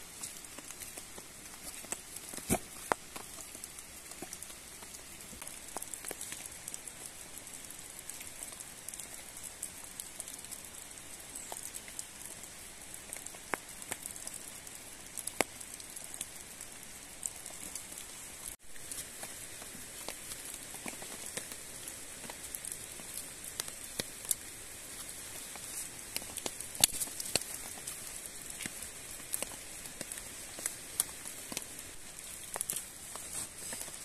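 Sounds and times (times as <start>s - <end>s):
steady outdoor hiss: 0.0s - 34.0s
twigs snapping and cracking: 0.1s - 12.4s, 17.2s - 34.0s.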